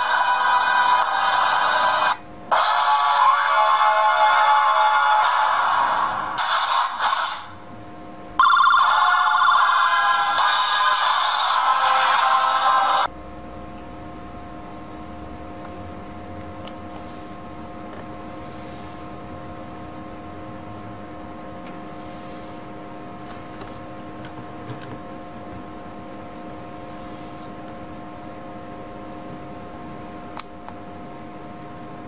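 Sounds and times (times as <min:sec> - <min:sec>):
room hum with fixed tones: 0:00.0 - 0:32.0.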